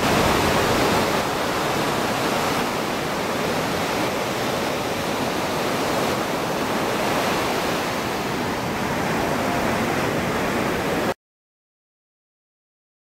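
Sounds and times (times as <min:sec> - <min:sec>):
ocean waves breaking: 0:00.0 - 0:11.2.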